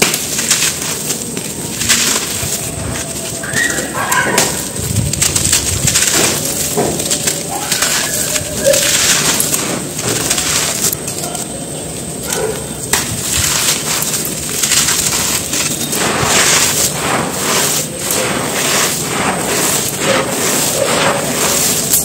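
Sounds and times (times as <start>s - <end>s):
dirt clods crunching: 0.0s - 22.0s
dirt grains pouring: 0.0s - 22.0s.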